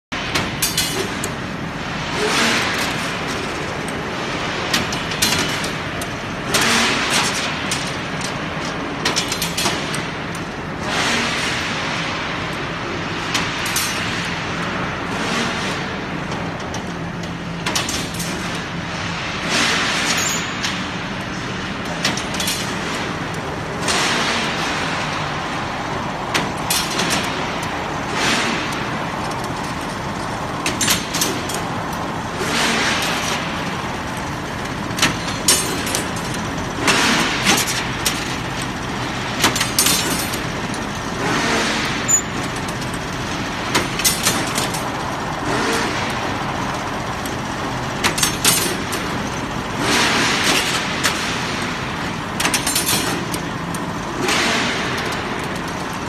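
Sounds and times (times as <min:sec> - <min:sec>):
steady machine hum: 0:00.1 - 0:56.0
machine whooshing with clanks: 0:00.2 - 0:56.0.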